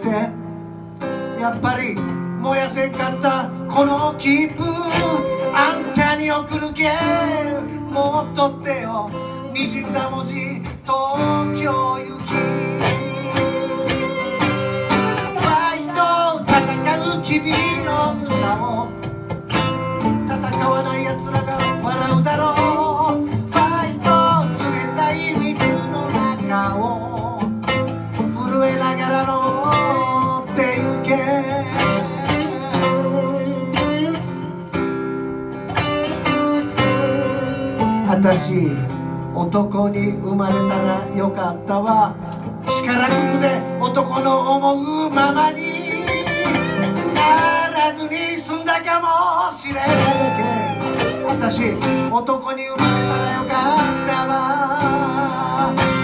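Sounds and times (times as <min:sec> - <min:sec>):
acoustic guitar strumming: 0:00.0 - 0:56.0
electric guitar playing: 0:00.0 - 0:56.0.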